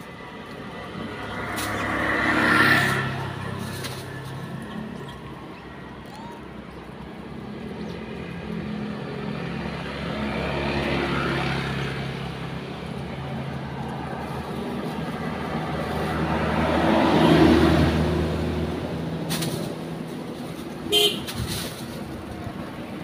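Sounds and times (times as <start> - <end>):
vehicles passing on road: 0.0 - 23.0.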